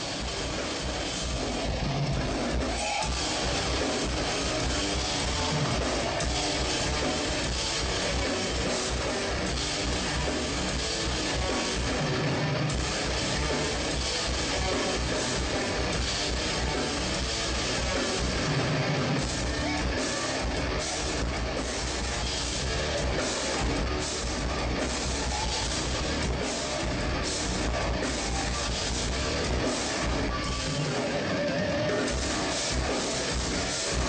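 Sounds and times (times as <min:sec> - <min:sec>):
distorted electric guitars: 0:00.0 - 0:34.0
drum kit: 0:00.0 - 0:34.0.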